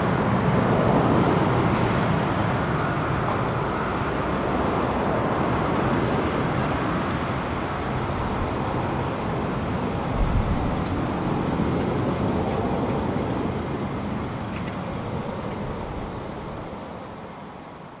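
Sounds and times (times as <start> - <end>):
jet airliner rumble: 0.0 - 18.0.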